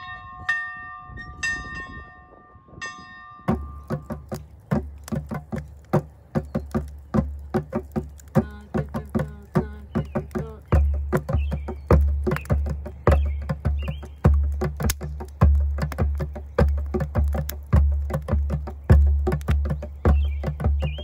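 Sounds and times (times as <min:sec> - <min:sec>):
hand drums beaten: 0:03.5 - 0:21.0.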